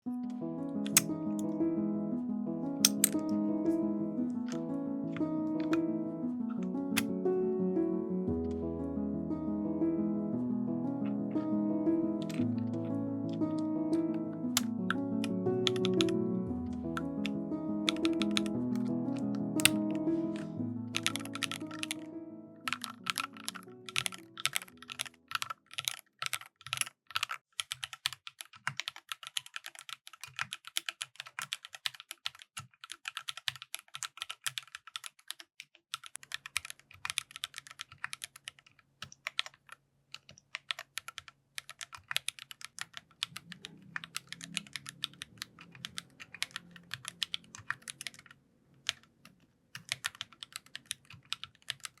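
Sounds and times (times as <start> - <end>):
mechanical keyboard typing: 0.2 - 1.6, 2.7 - 7.2, 11.0 - 52.0.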